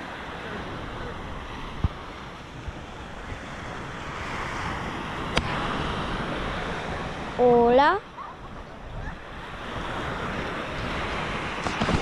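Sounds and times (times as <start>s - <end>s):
waves breaking on shore: 0.0s - 12.0s
wind on microphone: 0.0s - 12.0s.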